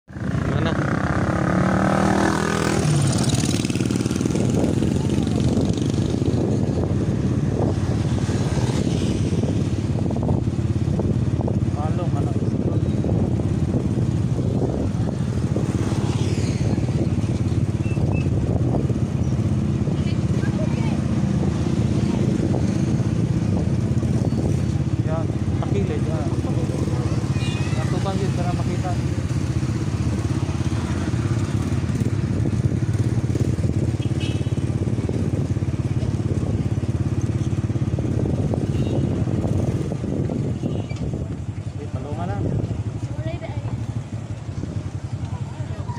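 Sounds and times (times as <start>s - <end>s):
motorcycle engine running: 0.1s - 45.9s
wind rushing: 0.2s - 41.6s.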